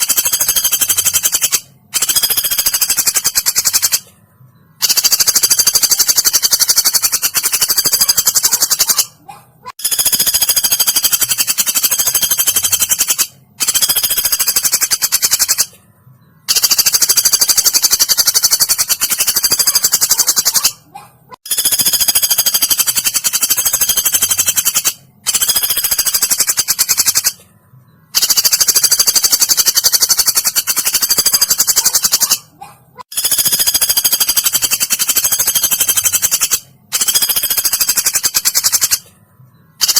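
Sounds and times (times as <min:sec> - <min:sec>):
woodpecker rattling trill: 0:00.0 - 0:04.1, 0:04.8 - 0:15.8, 0:16.5 - 0:20.8, 0:21.4 - 0:27.4, 0:28.1 - 0:39.1.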